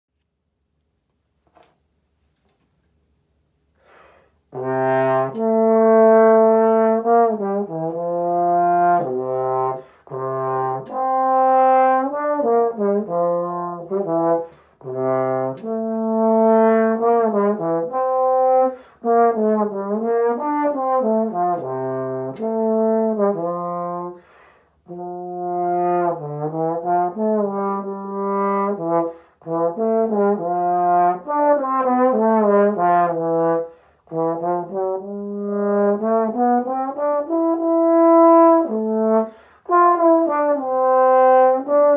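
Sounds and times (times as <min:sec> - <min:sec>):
slide trombone solo: 0:04.4 - 0:41.9.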